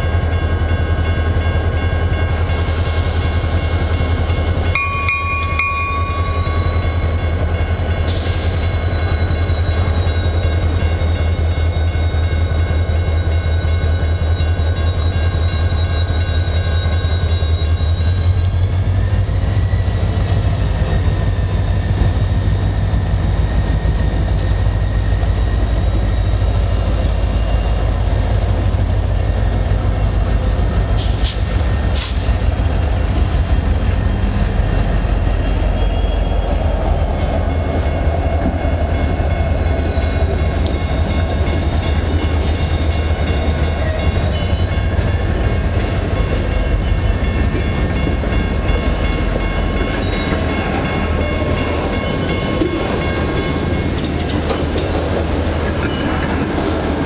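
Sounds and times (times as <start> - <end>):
diesel locomotive rumble: 0.0 - 57.0
train wheels squealing: 0.0 - 57.0.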